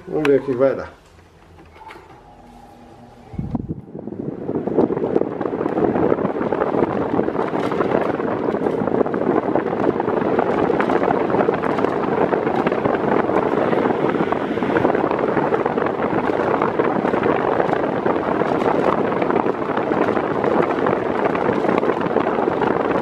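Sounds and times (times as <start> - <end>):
electric fan airflow rushing: 0.0 - 23.0.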